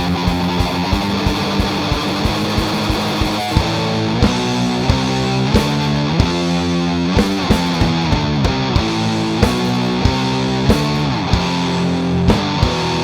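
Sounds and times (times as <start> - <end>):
bass guitar: 0.0 - 13.0
distorted electric guitar riff: 0.0 - 13.0
steady drum beat: 0.0 - 13.0.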